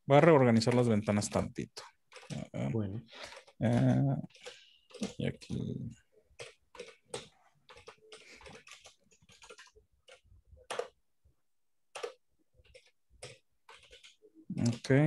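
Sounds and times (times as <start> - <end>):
keyboard typing: 0.3 - 11.0, 11.9 - 15.0.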